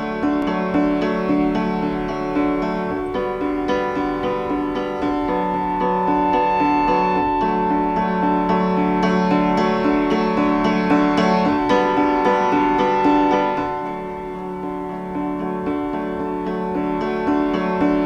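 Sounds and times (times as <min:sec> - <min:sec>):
piano background music: 0:00.0 - 0:18.0.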